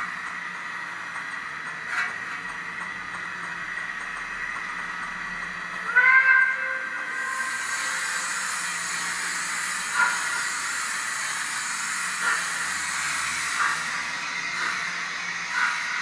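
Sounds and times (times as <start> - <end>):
model steam locomotive hissing: 0.0 - 16.0
steam locomotive chuffs: 0.0 - 16.0.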